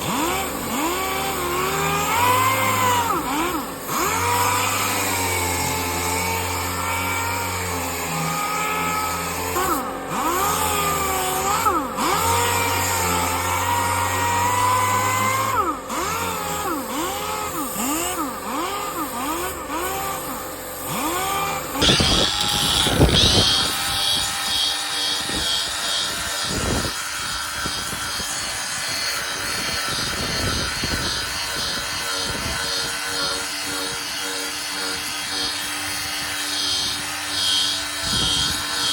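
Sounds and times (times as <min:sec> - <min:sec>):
power sander sanding: 0:00.0 - 0:38.9.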